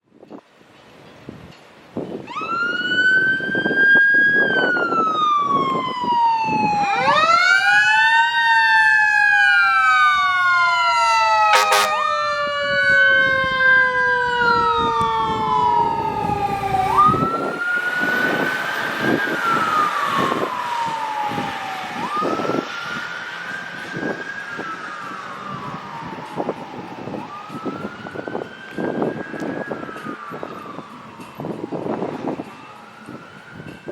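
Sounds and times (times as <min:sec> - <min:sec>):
fire engine siren wailing: 0:02.2 - 0:33.9
siren blast: 0:02.3 - 0:33.9.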